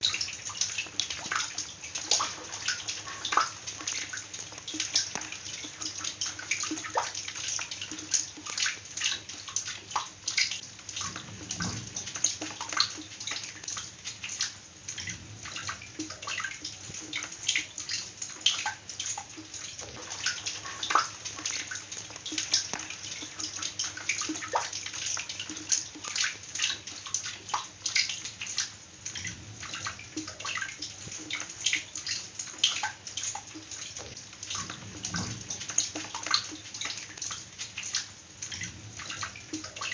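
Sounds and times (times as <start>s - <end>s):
water splashing and dripping: 0.0s - 39.9s.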